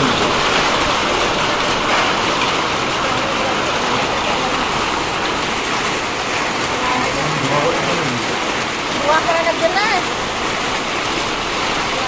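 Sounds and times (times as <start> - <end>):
hail and rain on tin roofs: 0.0 - 12.0.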